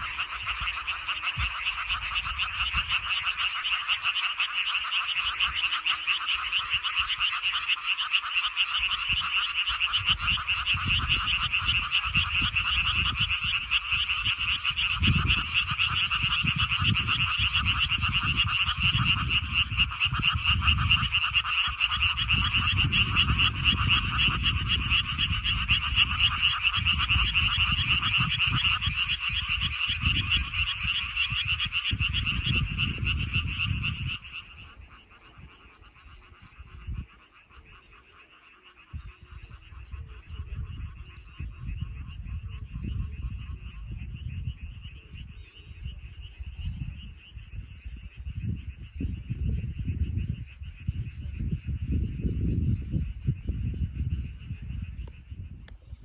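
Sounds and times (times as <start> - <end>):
frogs croaking: 0.0 - 56.0.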